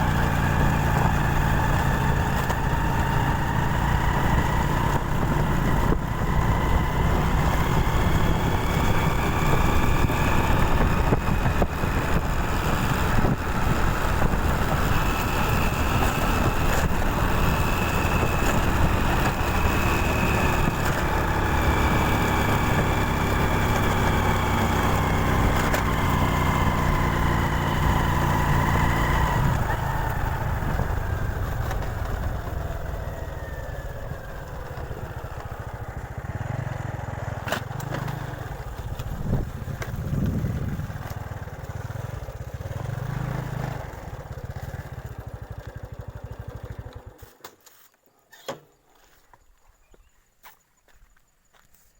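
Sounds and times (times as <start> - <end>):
motorcycle engine running: 0.0 - 47.3.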